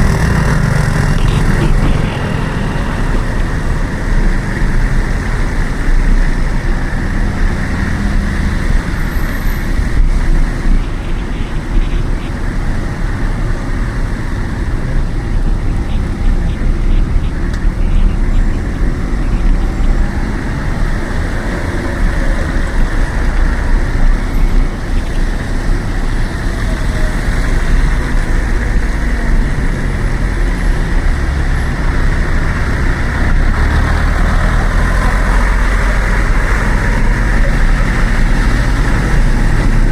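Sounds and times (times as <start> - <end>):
motor vehicles running nearby: 0.0 - 39.9
road traffic noise: 0.0 - 39.9
wind rumbling on microphone: 0.0 - 39.9.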